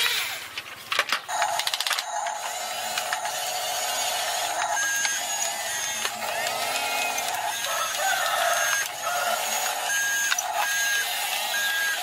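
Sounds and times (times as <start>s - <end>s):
toy motors whirring: 0.0s - 12.0s.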